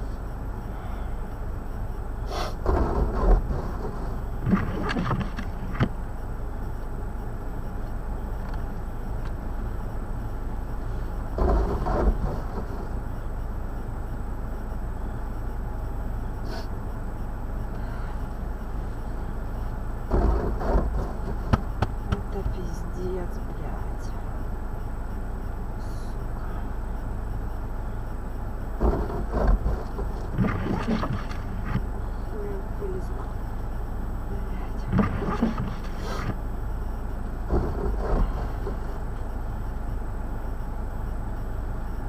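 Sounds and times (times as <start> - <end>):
vehicle rumbling in snow: 0.0 - 42.0.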